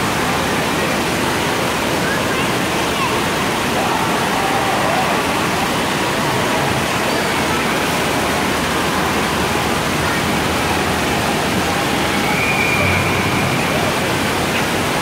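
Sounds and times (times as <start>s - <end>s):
faint voices: 0.0s - 15.0s
fountain water rushing and splashing: 0.0s - 15.0s.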